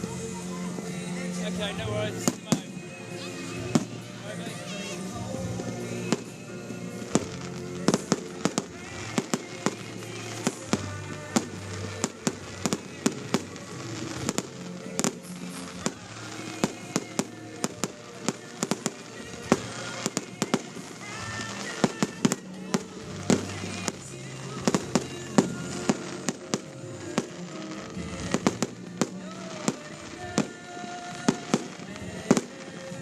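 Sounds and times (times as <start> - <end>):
background music: 0.0 - 33.0
fireworks bangs: 0.0 - 33.0.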